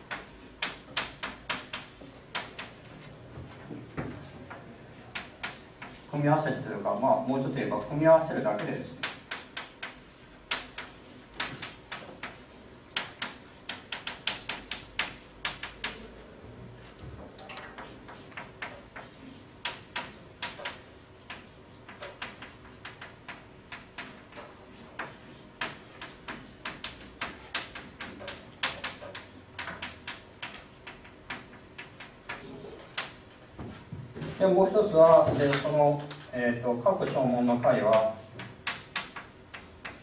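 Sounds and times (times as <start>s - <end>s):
chalk tapping and scratching: 0.0s - 16.2s, 16.8s - 35.8s, 37.0s - 40.0s.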